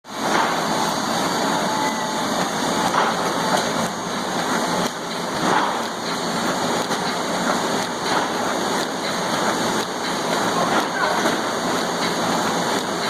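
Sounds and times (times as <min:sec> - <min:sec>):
printing press clattering: 0:00.1 - 0:13.0.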